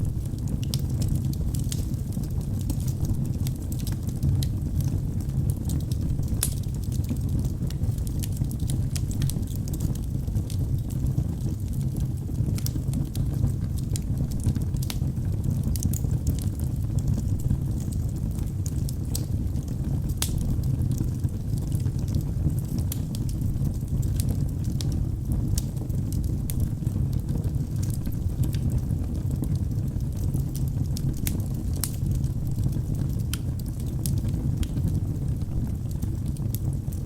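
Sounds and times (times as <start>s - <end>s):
fire crackles and pops: 0.0s - 37.0s
fire flames rushing: 0.0s - 37.0s.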